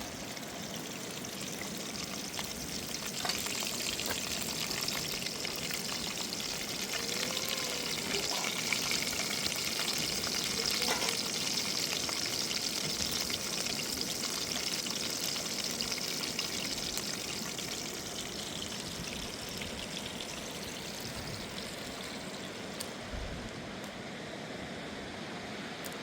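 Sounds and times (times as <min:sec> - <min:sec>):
food sizzling in a pan: 0:00.0 - 0:22.8.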